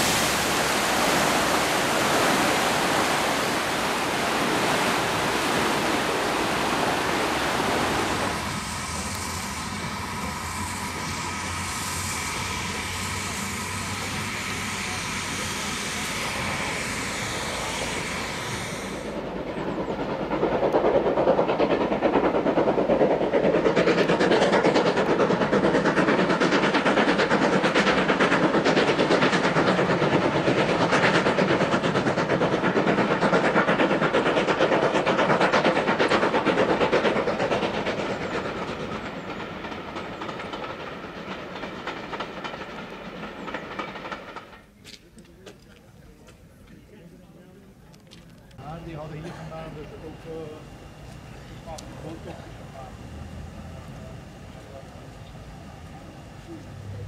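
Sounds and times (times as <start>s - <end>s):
rail noise: 0.0s - 57.0s
steam locomotive exhaust beats: 0.0s - 57.0s.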